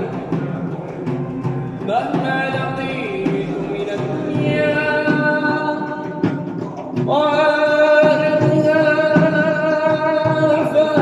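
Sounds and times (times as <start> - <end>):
man singing religious chant: 0.0 - 11.0.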